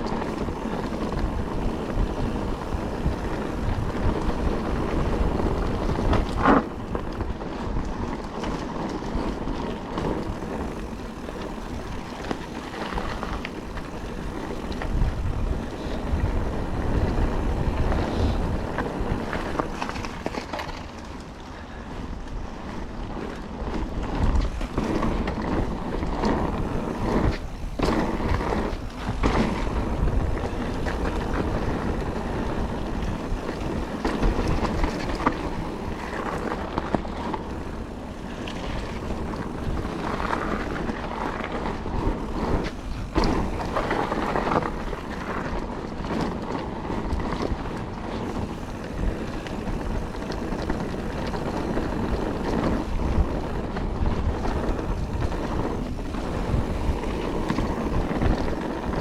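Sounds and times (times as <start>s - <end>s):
bike tyres crunching on trail: 0.0s - 59.0s
wind buffeting microphone: 0.0s - 59.0s.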